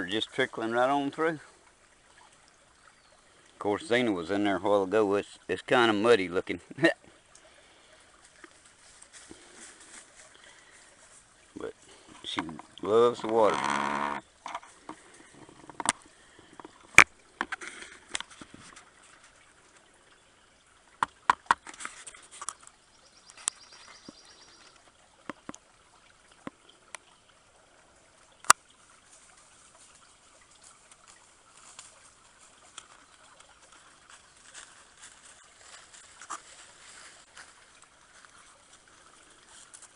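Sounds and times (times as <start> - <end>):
creek trickling: 0.0 - 39.9.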